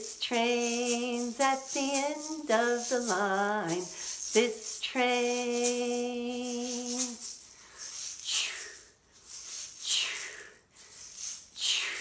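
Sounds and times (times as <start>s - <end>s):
shaker egg swishes: 0.0s - 12.0s.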